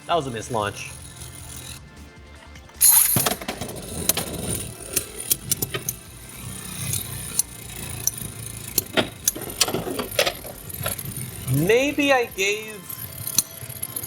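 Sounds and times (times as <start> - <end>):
spinning tops whirring: 0.0 - 14.0
tops clicking against plastic: 0.1 - 14.0.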